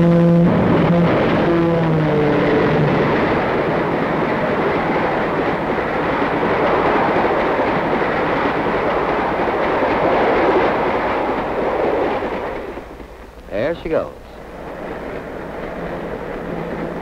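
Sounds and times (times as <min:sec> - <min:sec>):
train rushing past: 0:00.0 - 0:17.0.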